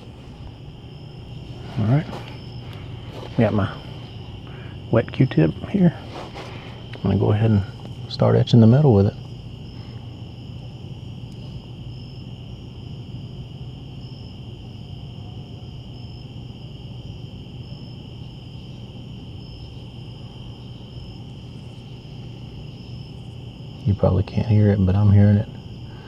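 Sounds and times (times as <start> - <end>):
crickets chirping: 0.0 - 26.0
steady low hum: 0.0 - 26.0.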